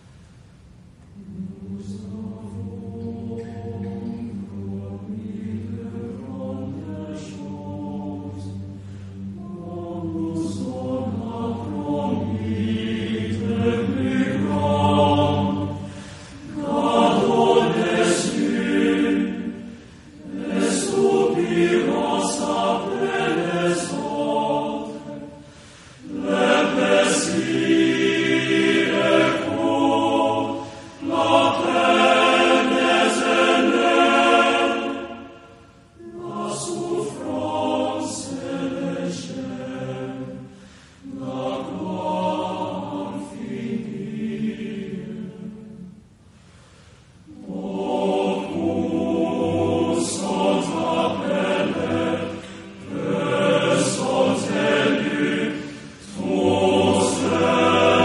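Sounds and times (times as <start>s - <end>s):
male choir singing: 1.2s - 46.0s, 47.3s - 58.0s.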